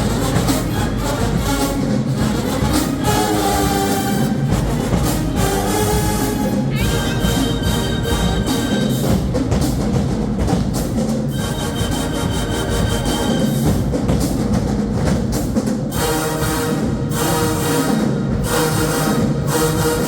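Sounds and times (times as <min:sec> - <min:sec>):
drum beats: 0:00.0 - 0:20.0
marching band held chords: 0:00.0 - 0:20.0.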